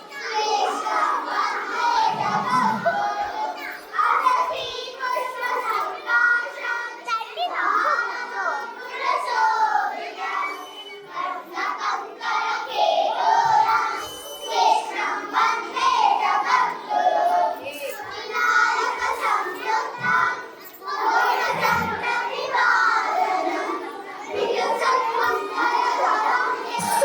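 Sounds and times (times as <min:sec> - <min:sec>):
children chattering and calling out: 0:00.0 - 0:27.0.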